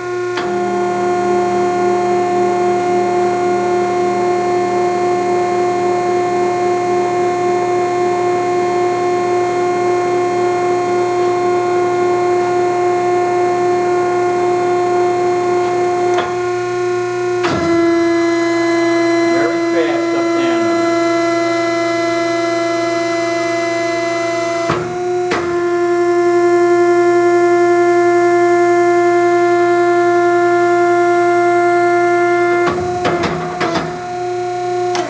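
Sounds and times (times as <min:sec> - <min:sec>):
hydraulic pump whining: 0:00.0 - 0:06.2, 0:09.0 - 0:35.0.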